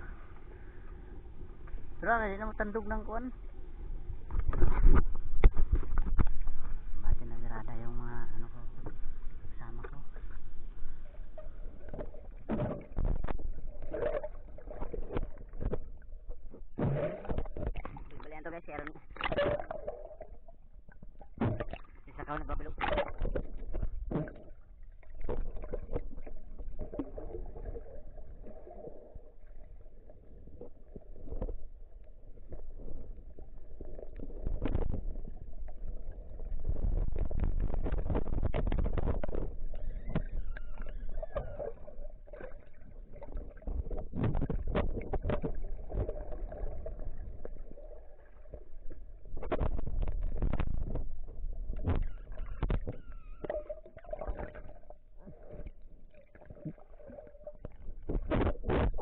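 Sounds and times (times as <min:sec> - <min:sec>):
low underwater rumble: 0:00.0 - 0:59.0
underwater bubbling and rushing: 0:00.0 - 0:59.0.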